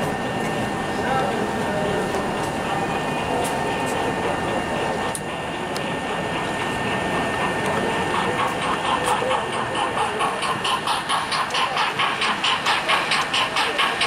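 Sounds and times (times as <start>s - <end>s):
model diesel locomotive running: 0.0s - 14.0s
regular mechanical beat: 2.1s - 14.0s.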